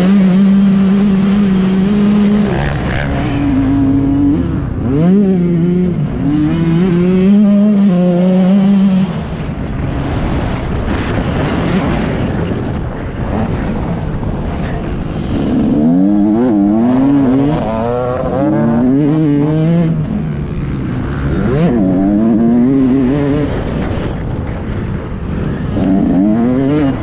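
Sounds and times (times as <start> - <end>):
dirt bike engine revving: 0.0 - 27.0
wind rush at speed: 0.0 - 27.0.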